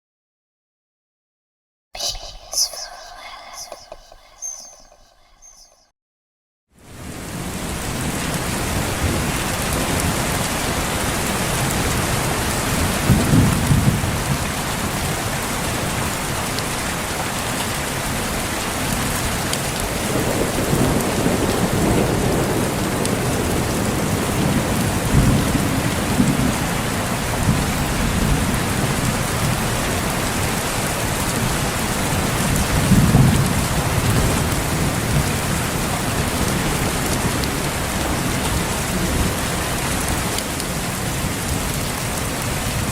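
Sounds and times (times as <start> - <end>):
steady rain: 6.8 - 42.9.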